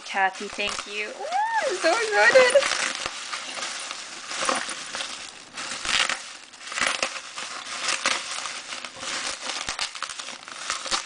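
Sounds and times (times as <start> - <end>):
package wrapping crinkling: 0.0 - 11.0.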